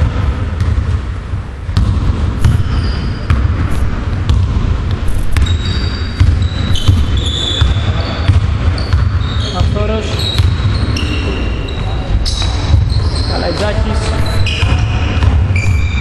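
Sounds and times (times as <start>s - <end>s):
basketball bouncing on wooden floor: 0.0s - 1.1s, 1.7s - 16.0s
sneakers squeaking: 1.8s - 16.0s.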